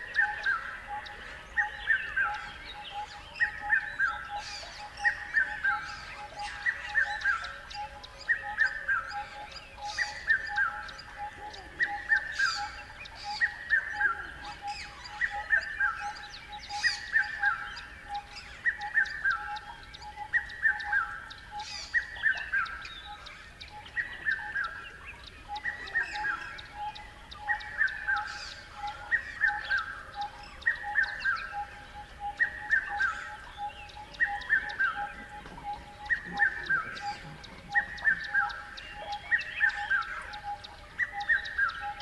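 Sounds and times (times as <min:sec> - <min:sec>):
birds chirping and calling: 0:00.0 - 0:42.0.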